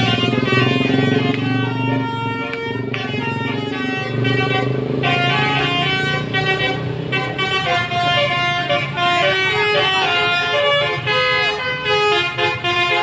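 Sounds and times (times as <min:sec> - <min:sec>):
musical bus air horn: 0:00.0 - 0:13.0.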